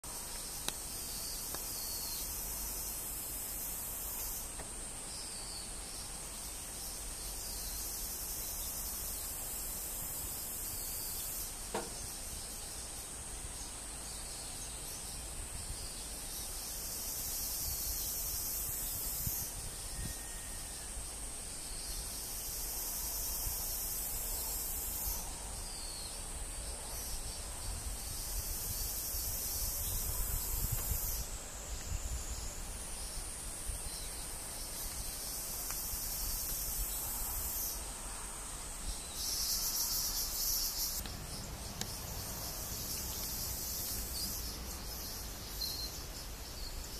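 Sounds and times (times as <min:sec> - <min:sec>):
insect chorus shrill hiss: 0:00.0 - 0:46.9.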